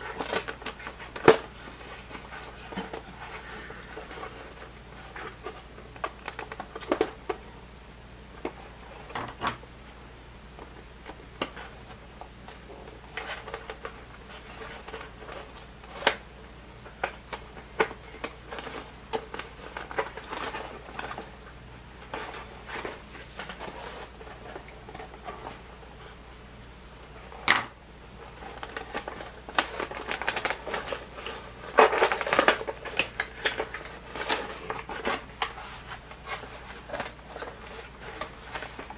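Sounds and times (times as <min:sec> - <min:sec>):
toy packaging clicks and rustles: 0:00.0 - 0:07.4, 0:10.6 - 0:25.6, 0:27.2 - 0:38.9.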